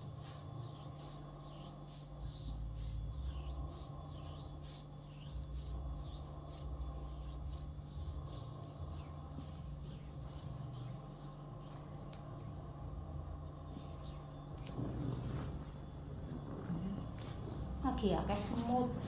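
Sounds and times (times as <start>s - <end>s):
hands rubbing skin in massage: 0.0s - 19.0s.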